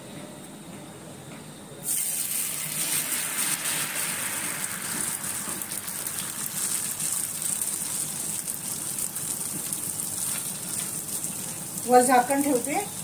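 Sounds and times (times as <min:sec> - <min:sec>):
batter sizzling on griddle: 0:01.8 - 0:13.0.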